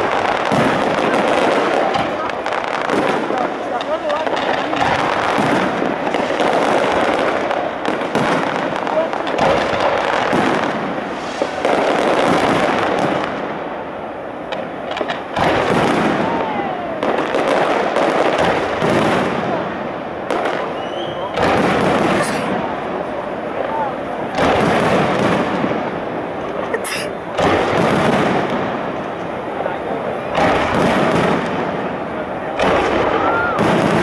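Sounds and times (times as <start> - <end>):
fireworks bursting and crackling: 0.0 - 34.0.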